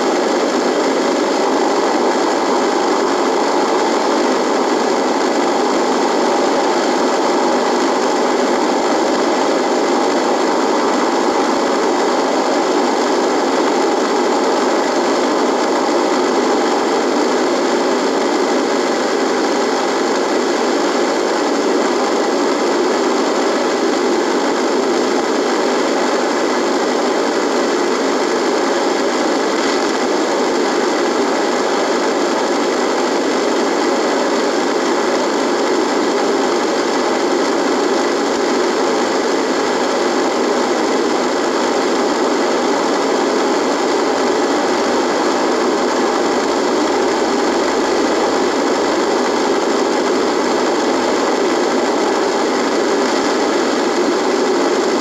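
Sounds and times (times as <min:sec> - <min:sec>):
radio buzzing: 0:00.0 - 0:55.0.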